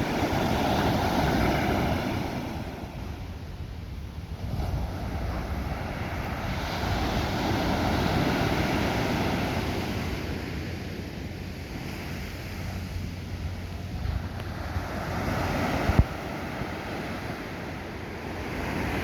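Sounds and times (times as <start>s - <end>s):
sea waves breaking: 0.0s - 19.0s
wind rumbling on microphone: 0.0s - 19.0s.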